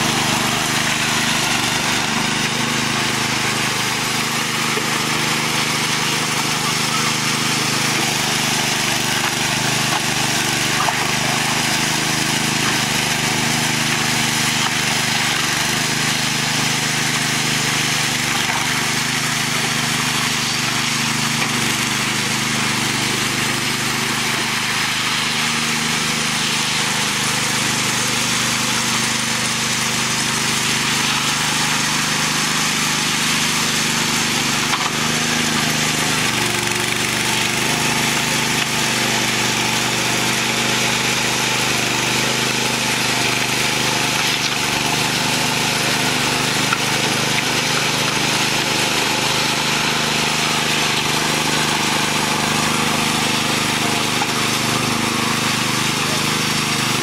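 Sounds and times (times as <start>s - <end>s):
small petrol engine running: 0.0s - 57.0s.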